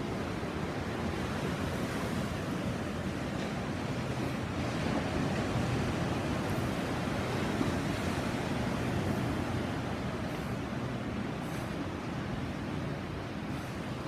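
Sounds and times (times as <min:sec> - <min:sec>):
ocean waves breaking on shore: 0:00.0 - 0:14.0.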